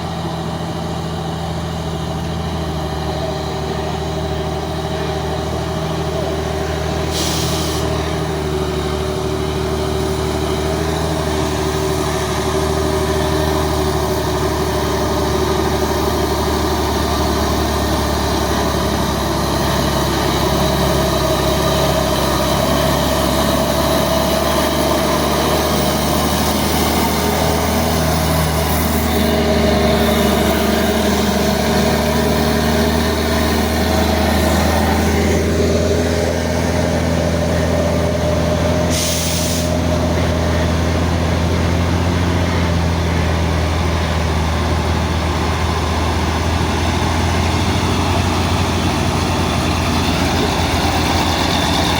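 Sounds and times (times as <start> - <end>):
heavy truck engine running: 0.0 - 51.9.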